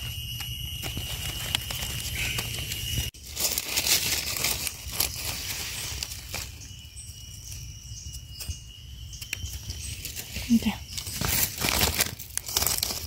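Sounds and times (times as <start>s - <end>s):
dry leaves crackling and rustling: 0.0s - 8.5s, 9.2s - 13.0s.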